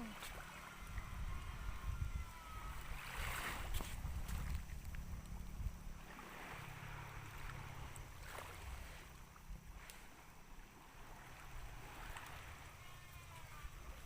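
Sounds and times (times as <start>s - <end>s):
water washing at shore: 0.0s - 14.0s
wind buffeting microphone: 0.0s - 14.0s.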